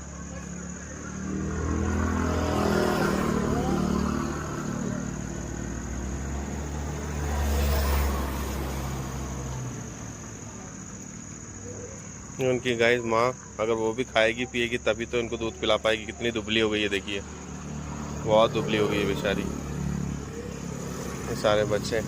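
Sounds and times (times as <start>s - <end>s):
crickets chirping: 0.0s - 22.0s
vehicles passing close by: 0.0s - 22.0s.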